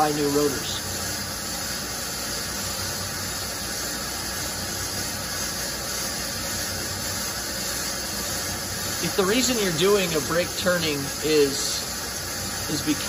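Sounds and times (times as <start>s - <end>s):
brake lathe cutting hiss: 0.0s - 13.0s.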